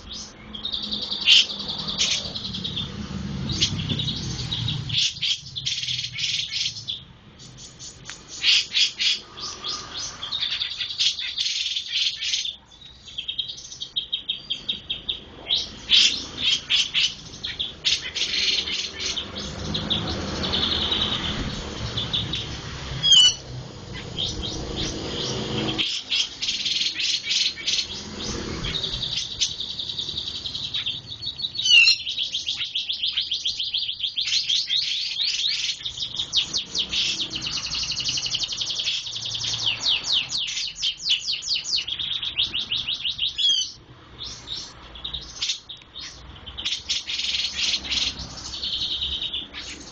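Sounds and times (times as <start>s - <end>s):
bird singing high trills: 0.0s - 49.9s.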